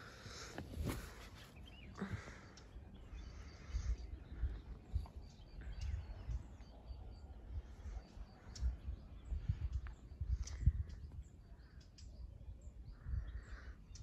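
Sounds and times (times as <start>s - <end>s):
faint bird chirps: 0.0s - 14.0s
wind rumbling on microphone: 0.0s - 14.0s.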